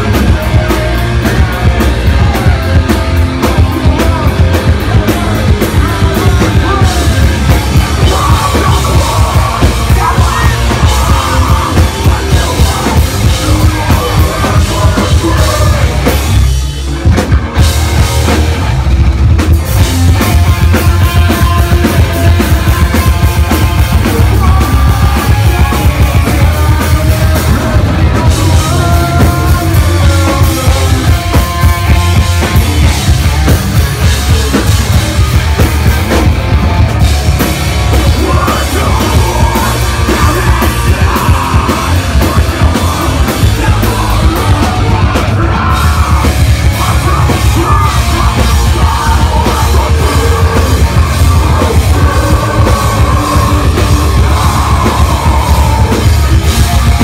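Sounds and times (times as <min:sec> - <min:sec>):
bass guitar: 0:00.0 - 0:57.0
distorted electric guitar: 0:00.0 - 0:57.0
drum kit: 0:00.0 - 0:57.0.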